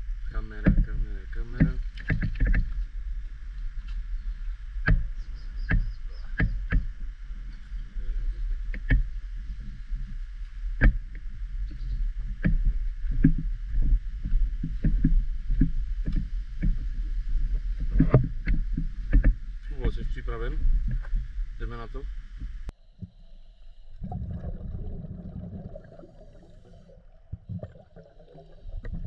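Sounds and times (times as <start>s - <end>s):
low rumble: 0.0s - 29.0s
faint high hum: 2.7s - 27.1s.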